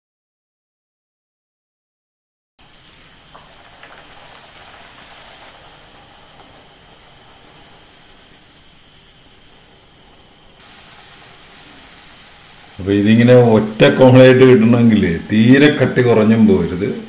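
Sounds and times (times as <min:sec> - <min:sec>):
dough deep-frying in oil: 0:02.6 - 0:17.0.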